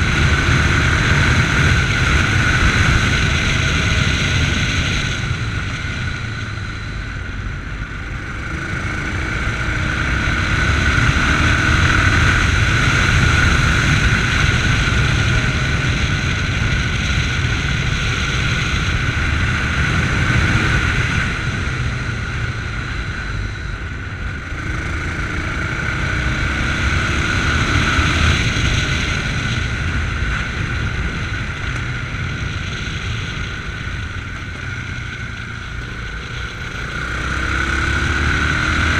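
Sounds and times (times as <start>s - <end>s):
motorcycle engine revving: 0.0s - 38.9s
wind rushing on microphone: 0.0s - 38.9s.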